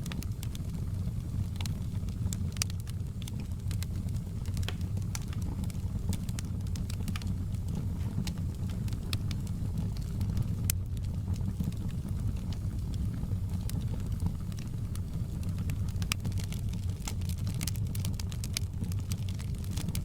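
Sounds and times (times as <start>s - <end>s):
fire crackling in a fireplace: 0.0s - 20.0s.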